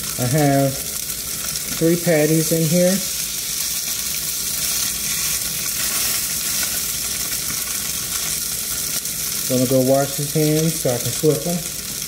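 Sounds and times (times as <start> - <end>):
patties sizzling in a skillet: 0.0 - 12.0.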